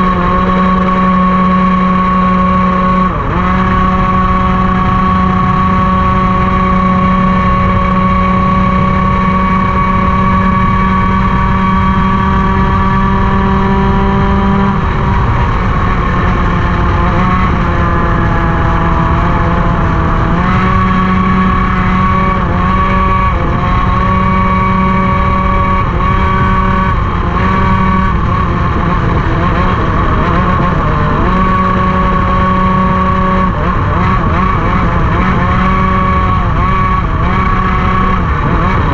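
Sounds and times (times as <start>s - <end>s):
racing kart engine revving: 0.0s - 38.9s.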